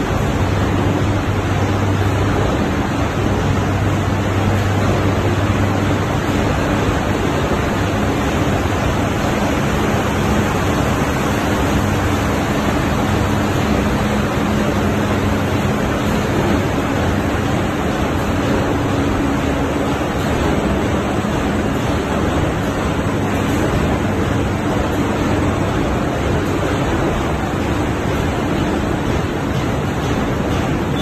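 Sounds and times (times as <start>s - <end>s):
laminating machine running: 0.0s - 31.0s.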